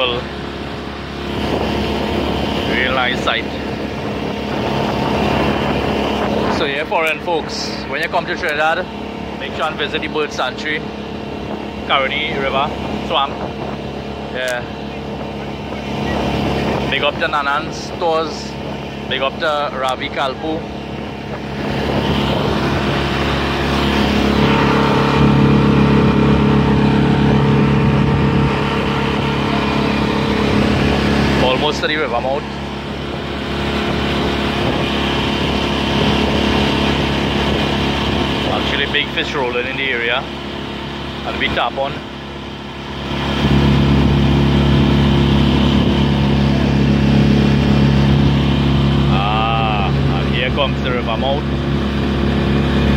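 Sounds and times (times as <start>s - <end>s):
outboard motor running: 0.0s - 52.9s
water rushing from boat wake: 0.0s - 52.9s.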